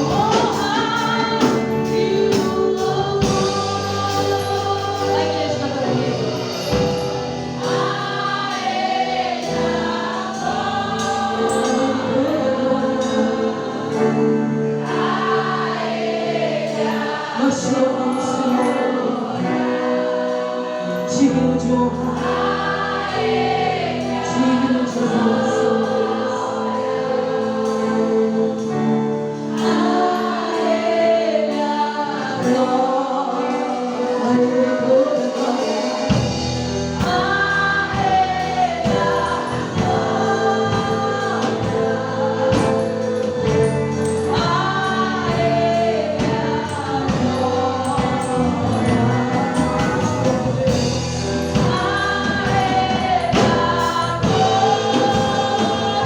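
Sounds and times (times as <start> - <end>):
band playing: 0.0 - 21.0, 22.2 - 56.0
choir singing gospel song: 0.0 - 56.0.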